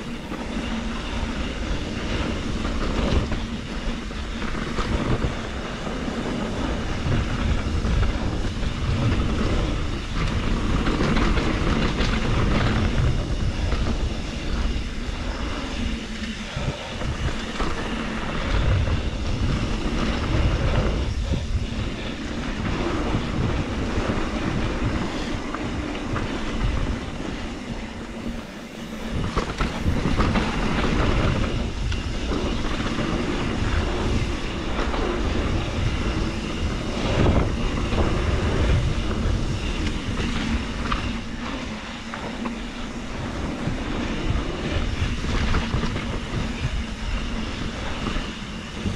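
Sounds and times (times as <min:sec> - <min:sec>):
bike rattling over bumps: 0:00.0 - 0:48.9
tyres rolling on dirt trail: 0:00.0 - 0:48.9
wind rushing over microphone: 0:00.0 - 0:48.9.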